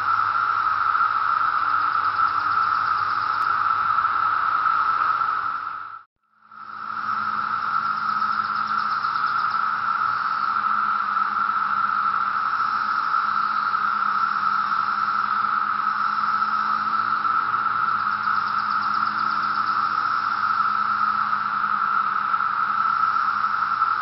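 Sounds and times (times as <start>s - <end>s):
cicadas droning: 0.0s - 24.0s.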